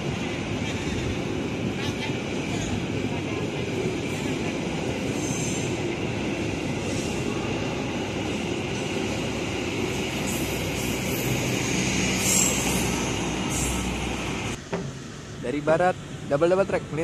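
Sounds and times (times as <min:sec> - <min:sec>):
train wheels rolling on rail: 0:00.0 - 0:17.0.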